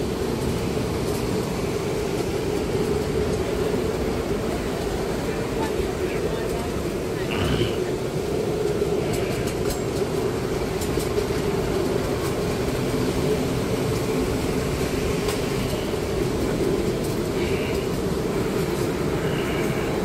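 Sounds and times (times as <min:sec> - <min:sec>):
miniature train running on track: 0:00.0 - 0:20.0.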